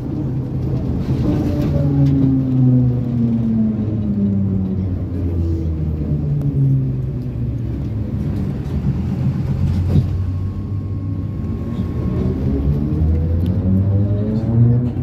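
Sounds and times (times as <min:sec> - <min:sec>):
trolleybus motor whining down: 0:00.0 - 0:14.0
vehicle low rumble: 0:00.0 - 0:15.0.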